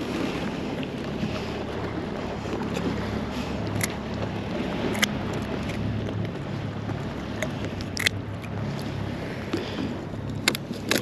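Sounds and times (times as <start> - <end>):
outboard engine humming: 0.0 - 11.0
water against kayak: 0.0 - 11.0
wind on microphone: 0.0 - 11.0.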